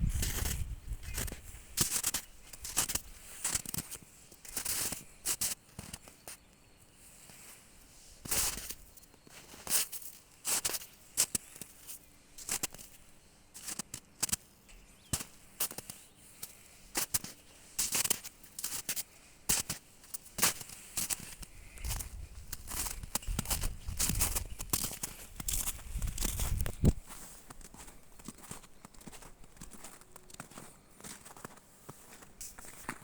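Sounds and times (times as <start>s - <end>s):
footsteps crunching on forest path: 0.0s - 33.0s.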